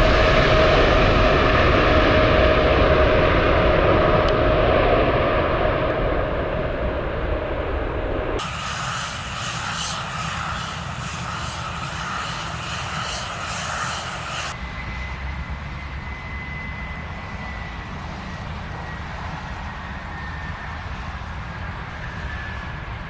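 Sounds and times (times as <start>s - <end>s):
airliner engine noise: 0.0s - 23.0s
high engine whine: 0.0s - 23.0s.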